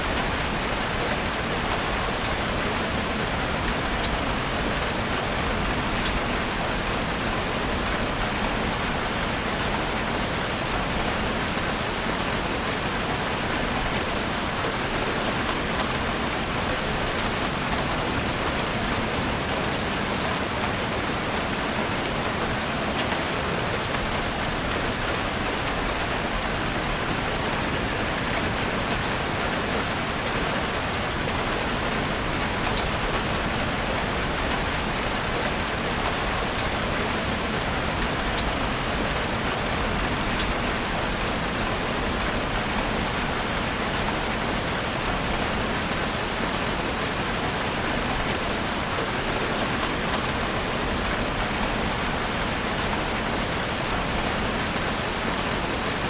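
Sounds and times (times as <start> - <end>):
heavy rain drumming on a roof: 0.0 - 56.0.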